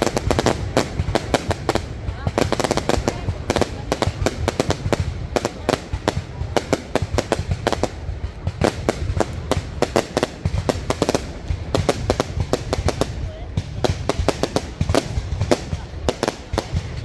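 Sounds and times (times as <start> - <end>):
fireworks bangs and cracks: 0.0 - 17.0
low rumble: 0.0 - 17.0.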